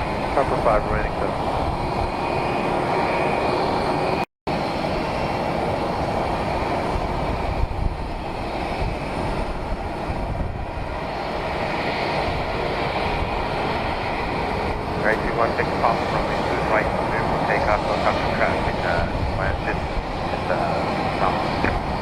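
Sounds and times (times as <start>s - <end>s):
aircraft engine noise: 0.0s - 22.0s.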